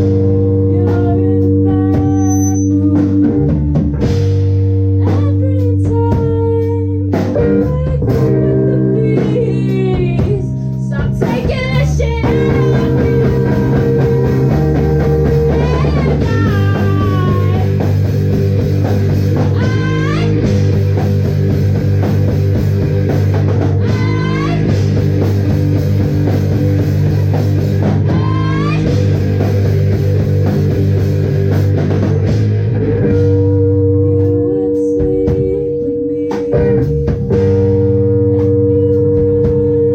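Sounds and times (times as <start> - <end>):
electric guitar sliding notes: 0.0 - 39.9
live rock band playing: 0.0 - 39.9.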